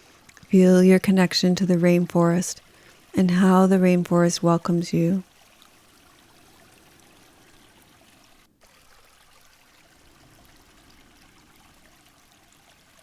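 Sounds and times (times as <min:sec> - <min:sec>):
faint stream trickling: 0:00.0 - 0:13.0.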